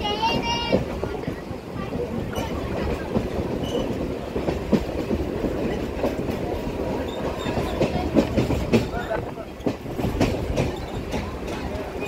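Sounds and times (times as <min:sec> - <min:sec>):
train rumble: 0:00.0 - 0:12.0
wheels clacking over rails: 0:00.0 - 0:12.0.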